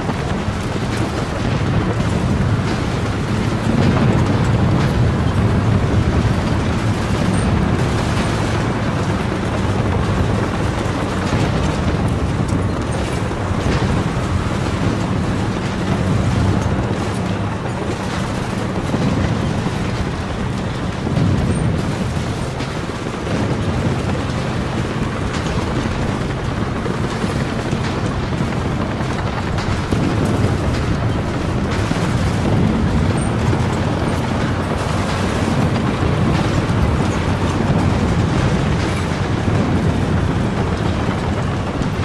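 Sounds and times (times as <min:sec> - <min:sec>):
rumble of bombs and explosions: 0:00.0 - 0:42.0
scattered crackles: 0:00.0 - 0:42.0
steady low drone: 0:00.0 - 0:42.0.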